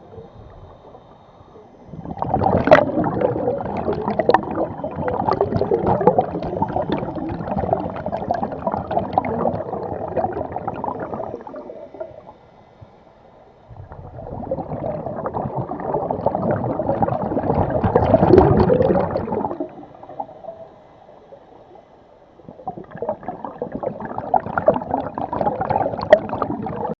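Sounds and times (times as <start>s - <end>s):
air bubbling underwater: 1.9s - 12.4s, 13.7s - 20.6s, 22.4s - 27.0s.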